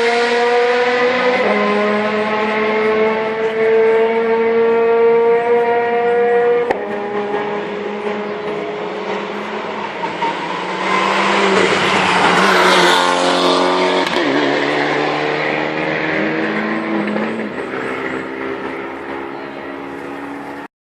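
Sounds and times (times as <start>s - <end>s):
rally car passing at speed: 0.0s - 20.7s.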